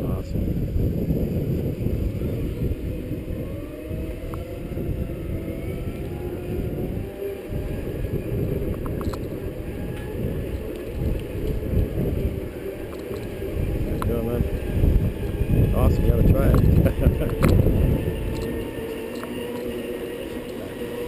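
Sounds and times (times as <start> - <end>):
electric drive whine: 0.0 - 21.0
wind rumble on microphone: 0.0 - 21.0.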